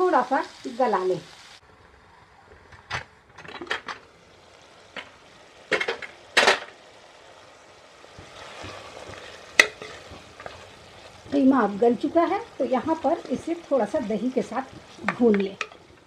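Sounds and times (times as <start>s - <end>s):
faint food sizzling: 0.0s - 16.0s.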